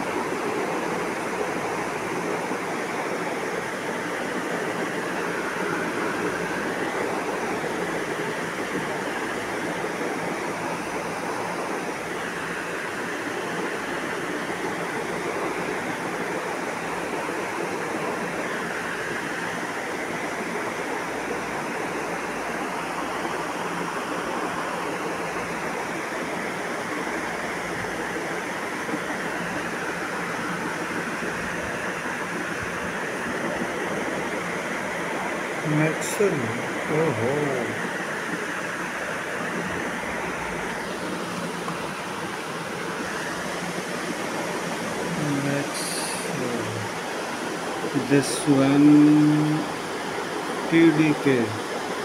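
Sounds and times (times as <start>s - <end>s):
steady rushing noise: 0.0s - 52.0s.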